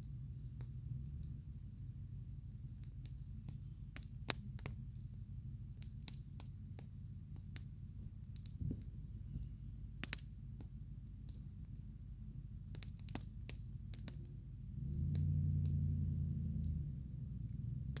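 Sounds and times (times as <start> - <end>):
campfire crackling and popping: 0.0 - 18.0
low rumble: 0.0 - 18.0.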